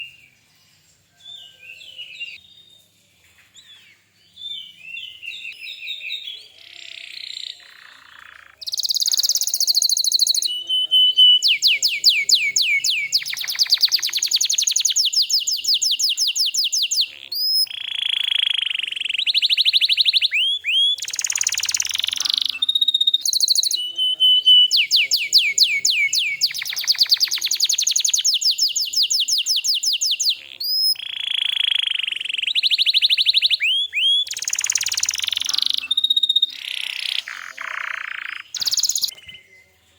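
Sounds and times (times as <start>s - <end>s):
canary singing trills: 3.6s - 39.7s.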